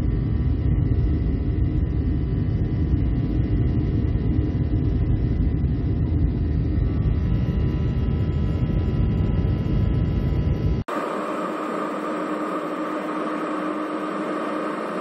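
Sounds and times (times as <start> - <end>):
faint whining tones: 0.0 - 15.0
jet engine rumble in cabin: 0.0 - 15.0.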